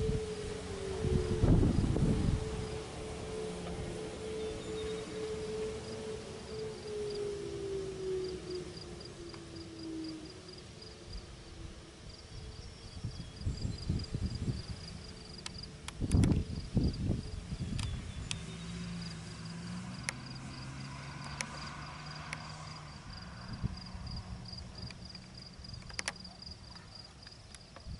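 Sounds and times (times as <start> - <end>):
insect chirring: 4.3 - 27.9.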